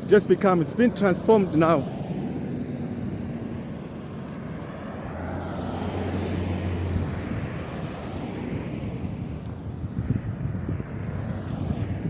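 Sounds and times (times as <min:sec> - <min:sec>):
road traffic passing: 0:00.0 - 0:12.0
vehicle engine hum passing: 0:00.0 - 0:12.0.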